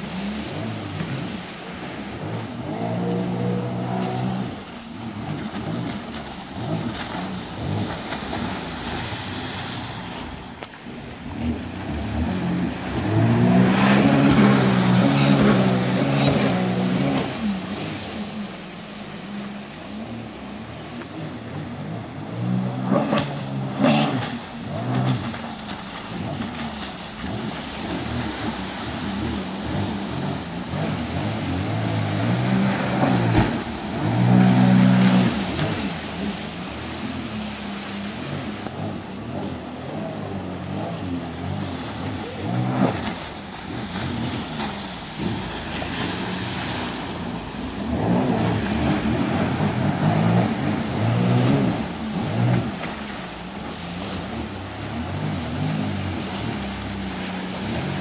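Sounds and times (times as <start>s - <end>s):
jet ski engine revving: 0.0s - 58.0s.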